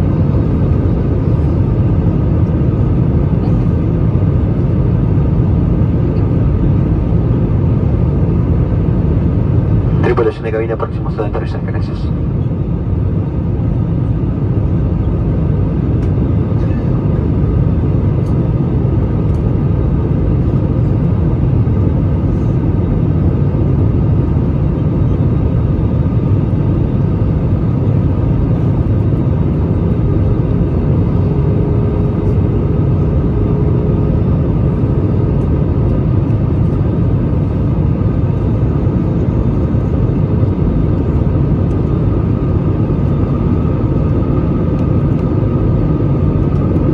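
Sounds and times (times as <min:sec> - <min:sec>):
aircraft engine noise: 0:00.0 - 0:46.9.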